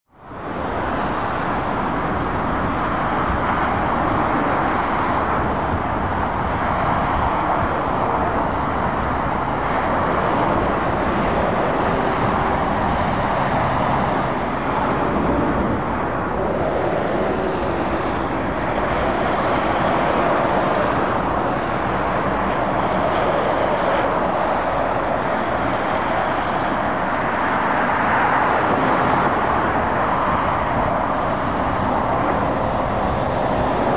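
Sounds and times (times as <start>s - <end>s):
road traffic passing at speed: 0.1s - 33.9s.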